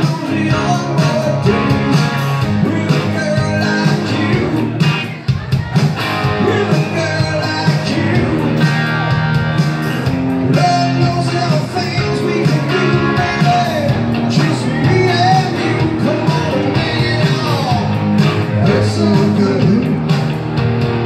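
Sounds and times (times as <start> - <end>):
man singing into a microphone: 0.0 - 5.2, 6.2 - 9.1, 10.4 - 20.1
acoustic-electric guitar: 0.0 - 21.0
electric guitar: 0.0 - 21.0.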